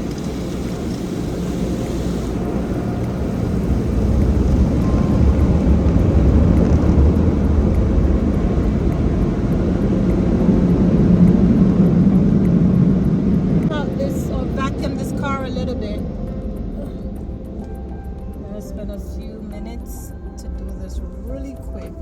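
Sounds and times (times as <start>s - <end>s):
car wash machinery roaring: 0.0s - 19.5s.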